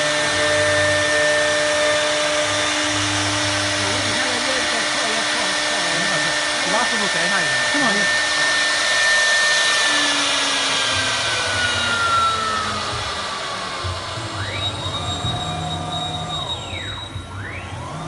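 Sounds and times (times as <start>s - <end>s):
motors whining up and down: 0.0s - 18.0s
wood router motor whine: 0.0s - 18.0s.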